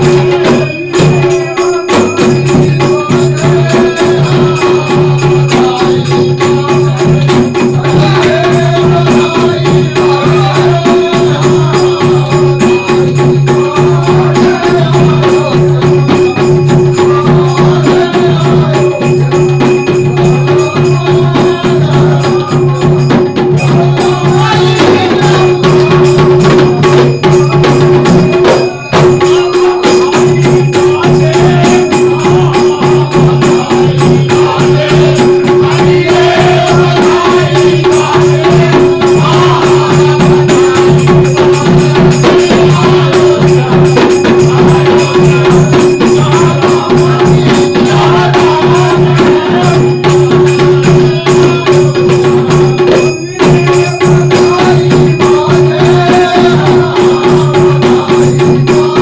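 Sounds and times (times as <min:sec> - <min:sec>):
barrel drum beat: 0:00.0 - 0:59.0
jingling metal percussion: 0:00.0 - 0:59.0
men singing: 0:00.0 - 0:59.0.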